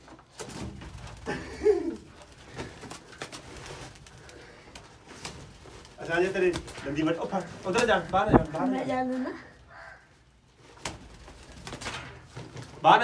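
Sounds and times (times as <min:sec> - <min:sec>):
birds calling: 0:01.2 - 0:12.2.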